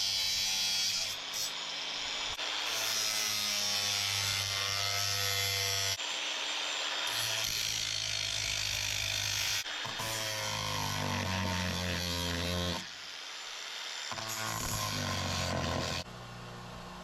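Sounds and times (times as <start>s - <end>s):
power saw cutting steel: 0.0s - 16.1s.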